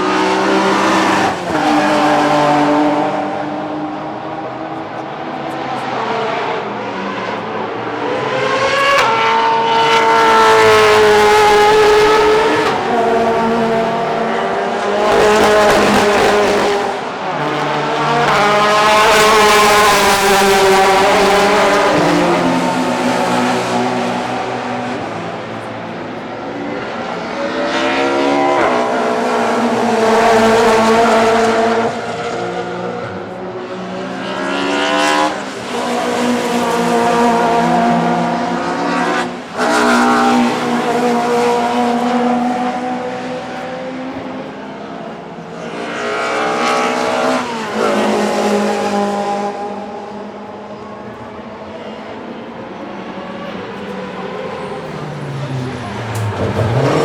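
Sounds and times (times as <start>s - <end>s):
racing cars passing: 0.0s - 57.0s.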